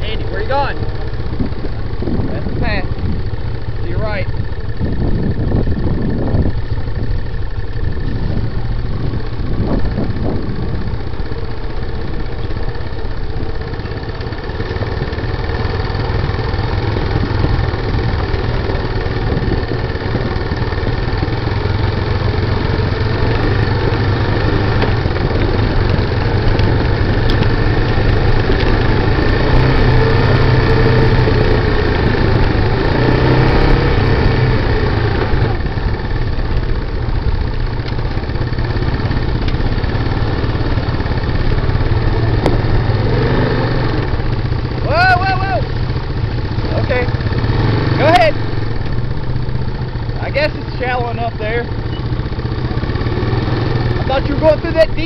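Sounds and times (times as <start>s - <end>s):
atv engines running: 0.0s - 55.0s.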